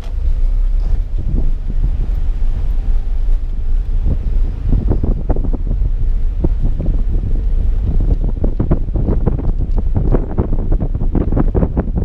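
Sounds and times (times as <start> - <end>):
low road rumble: 0.0 - 12.0
wind buffeting microphone: 0.0 - 12.0.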